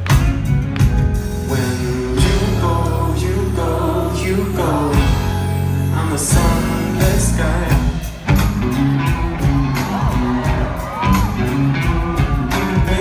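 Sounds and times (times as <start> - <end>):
live band music: 0.0 - 13.0
person singing: 1.4 - 13.0.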